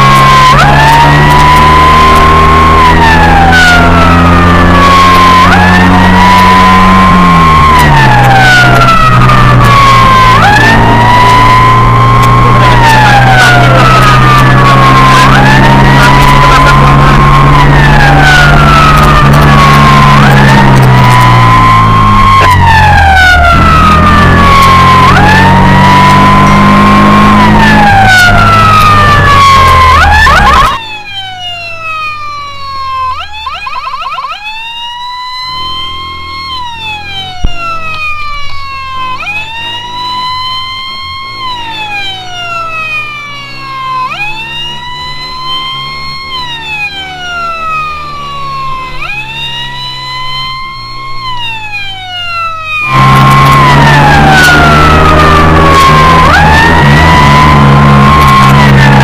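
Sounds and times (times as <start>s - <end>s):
siren wailing: 0.0s - 59.0s.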